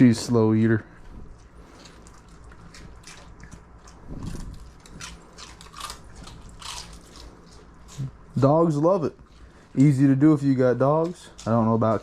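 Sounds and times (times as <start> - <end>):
dog chewing crunchy treat: 1.3 - 12.0.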